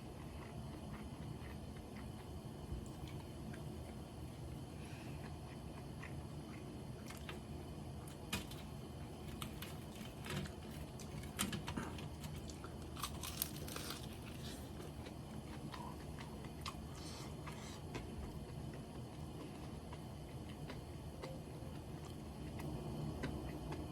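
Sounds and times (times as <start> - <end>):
crunchy chewing: 0.0 - 23.9
steady low hum: 0.0 - 23.9.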